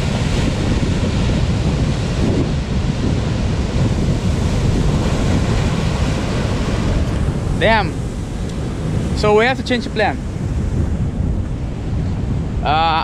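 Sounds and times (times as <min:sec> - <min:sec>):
surf breaking on rocks: 0:00.0 - 0:10.8
wind buffeting microphone: 0:00.0 - 0:13.0.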